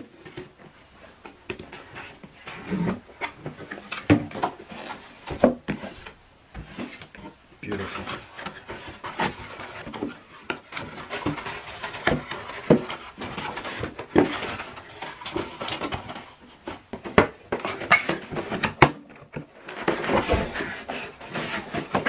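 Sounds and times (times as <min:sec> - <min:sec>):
cardboard rustling and scraping: 0:00.0 - 0:22.0.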